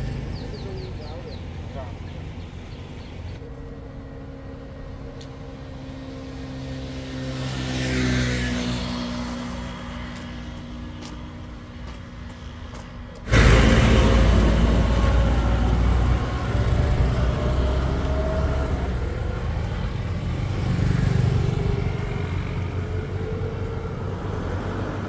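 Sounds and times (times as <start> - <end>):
vehicle engine rumbling: 0.0 - 7.6, 8.6 - 25.0.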